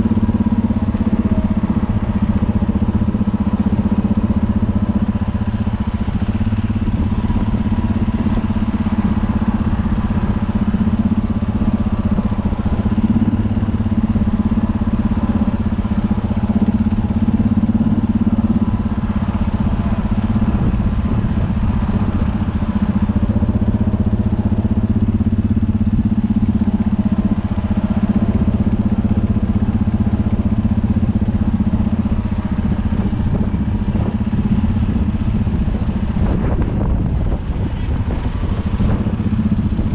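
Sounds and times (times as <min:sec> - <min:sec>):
diesel tractor engine droning: 0:00.0 - 0:39.9.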